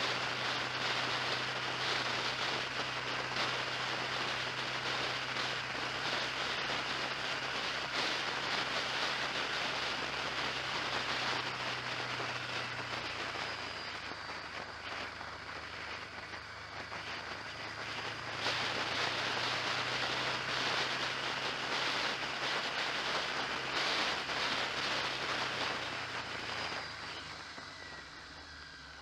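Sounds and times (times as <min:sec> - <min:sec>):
low vehicle hum: 0:00.0 - 0:29.0
wind and road noise: 0:00.0 - 0:29.0.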